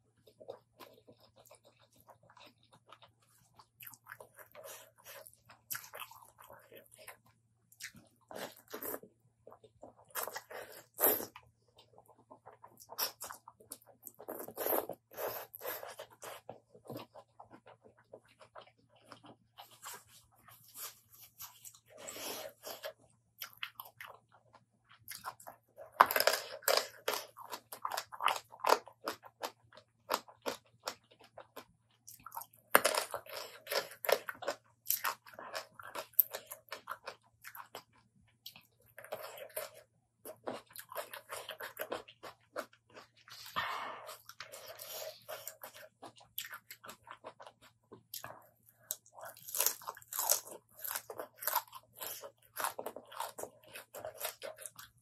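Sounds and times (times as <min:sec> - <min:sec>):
wet chewing and crunching: 0:00.0 - 0:55.0.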